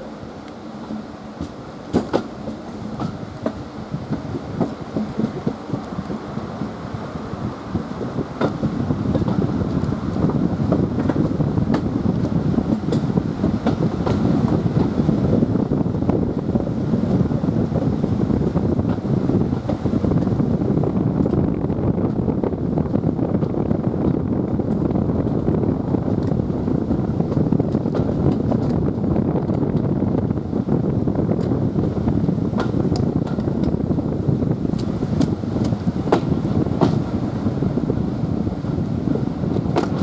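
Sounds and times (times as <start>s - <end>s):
train rumbling on track: 0.0s - 40.0s
wind buffeting microphone: 0.0s - 40.0s.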